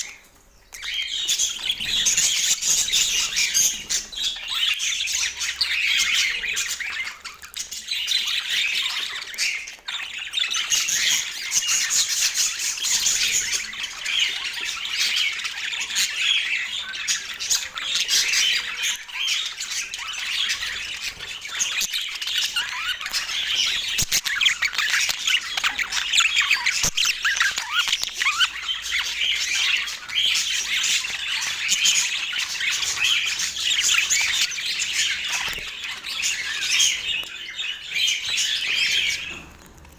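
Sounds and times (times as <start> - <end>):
budgerigar chirps and squawks: 0.8 - 39.5.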